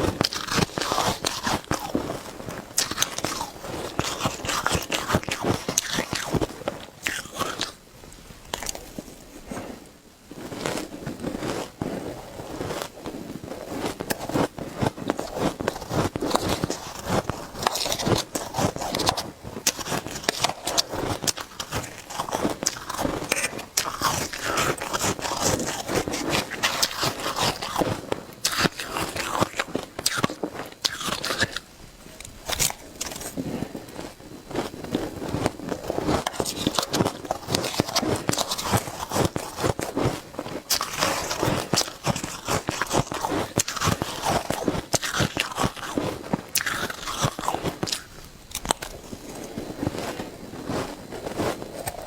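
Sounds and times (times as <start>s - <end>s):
shaved ice being chewed: 0.0s - 7.8s, 8.4s - 52.0s.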